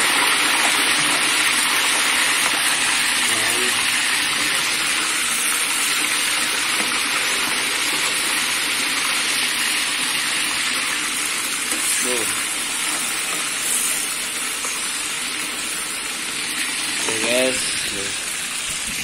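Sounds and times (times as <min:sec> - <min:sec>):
fish deep-frying in sizzling oil: 0:00.0 - 0:19.0.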